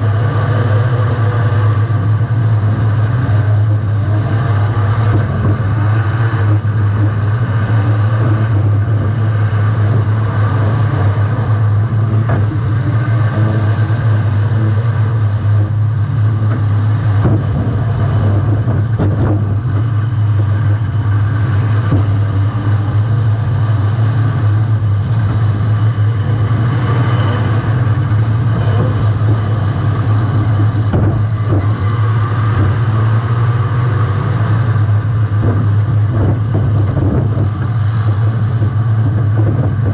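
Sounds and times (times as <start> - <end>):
loud car engine running: 0.0 - 39.9.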